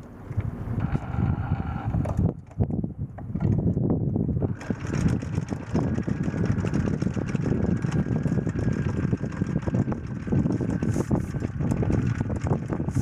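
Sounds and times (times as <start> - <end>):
diesel engine rumbling: 0.1 - 13.0.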